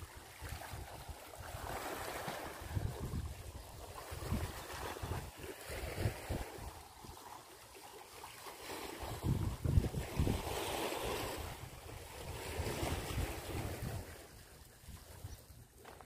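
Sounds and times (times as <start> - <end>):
waves washing against rocks: 0.0 - 7.1, 8.1 - 14.4
wind buffeting microphone: 0.4 - 6.9, 9.0 - 16.0.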